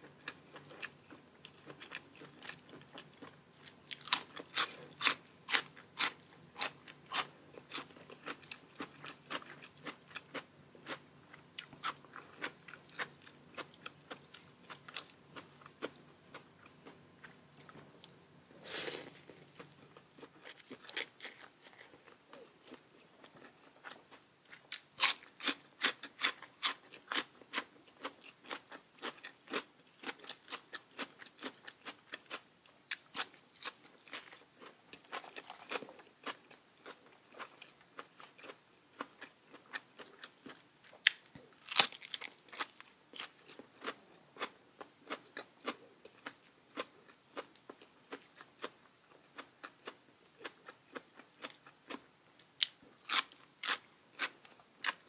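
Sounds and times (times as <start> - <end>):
chewing crisp raw vegetables: 0.1 - 55.0.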